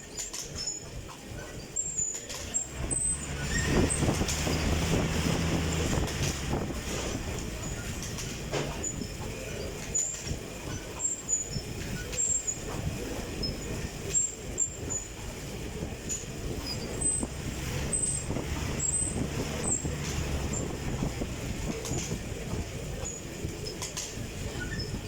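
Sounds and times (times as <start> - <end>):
exercise bike fan whirring: 0.0 - 25.0.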